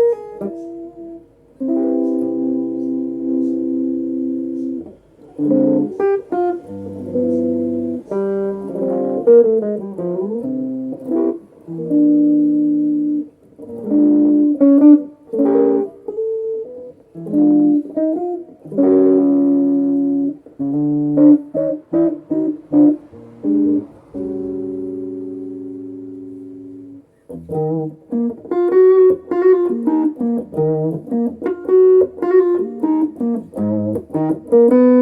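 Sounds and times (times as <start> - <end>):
electric guitar chords and licks: 0.0 - 35.0.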